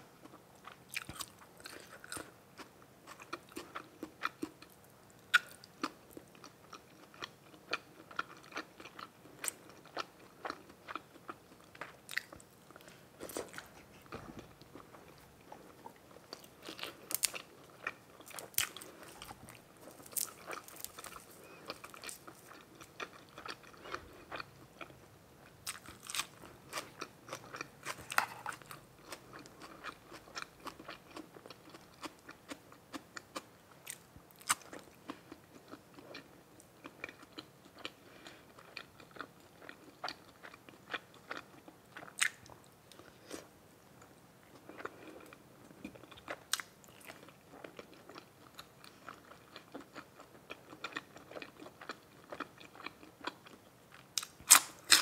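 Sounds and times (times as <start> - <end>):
person chewing crunchy food: 0.2 - 43.5, 44.5 - 55.0.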